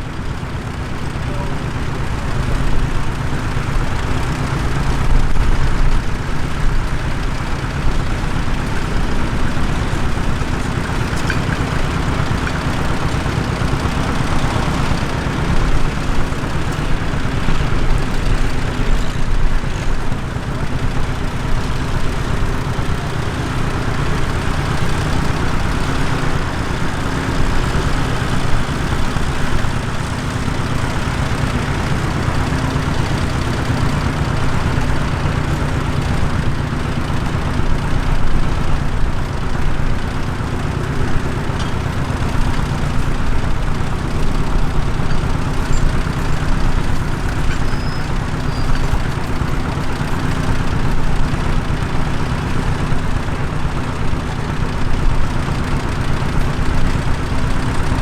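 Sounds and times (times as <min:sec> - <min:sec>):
tractor engine drone: 0:00.0 - 0:58.0.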